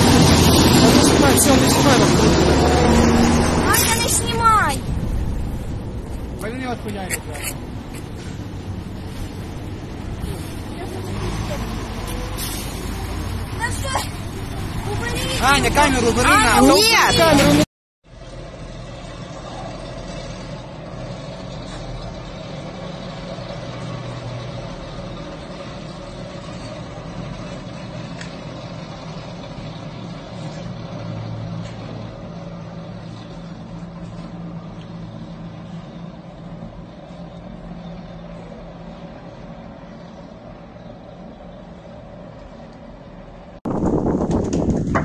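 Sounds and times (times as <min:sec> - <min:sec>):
military vehicle engines rumbling: 0:00.0 - 0:45.0.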